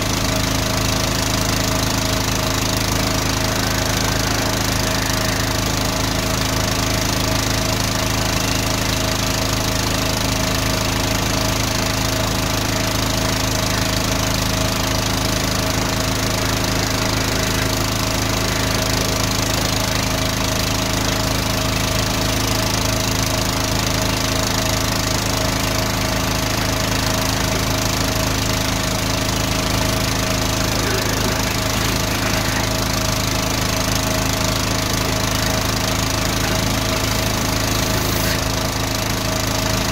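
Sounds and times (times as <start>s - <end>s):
drain jetter engine and pump: 0.0s - 39.9s.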